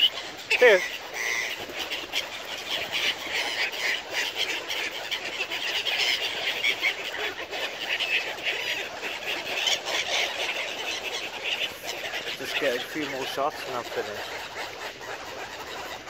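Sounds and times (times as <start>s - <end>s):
flock of birds squawking: 0.0s - 16.0s.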